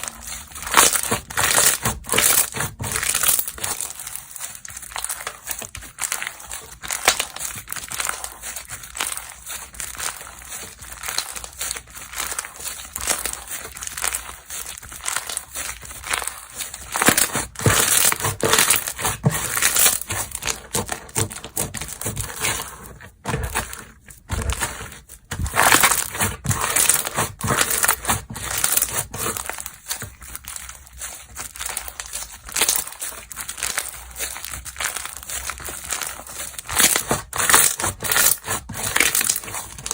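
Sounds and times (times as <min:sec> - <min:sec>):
slime squeezed by hand crackling: 0:00.0 - 0:22.7, 0:24.4 - 0:39.9.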